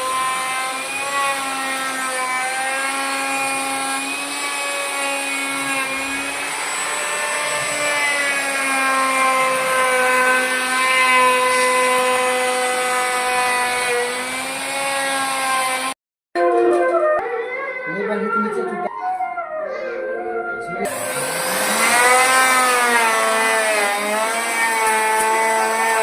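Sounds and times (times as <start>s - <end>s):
woodworking machine motor humming: 0.0s - 16.0s, 20.9s - 26.0s.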